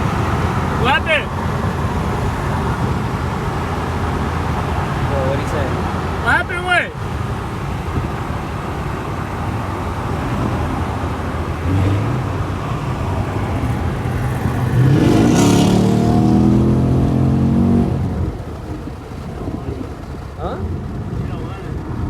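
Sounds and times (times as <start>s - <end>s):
car engine accelerating: 0.0s - 6.3s, 7.0s - 22.0s.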